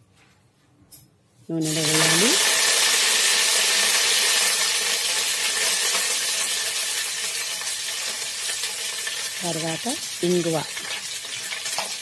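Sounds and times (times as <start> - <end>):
leaves sizzling in hot oil: 1.6 - 12.0.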